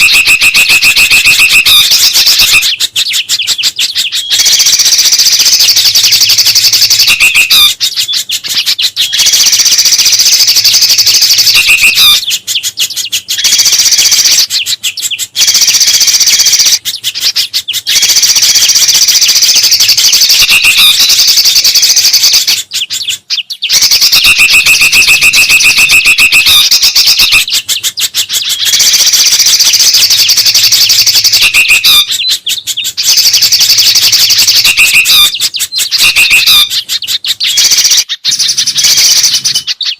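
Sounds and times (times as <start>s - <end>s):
songbirds chattering loudly: 0.0s - 39.9s.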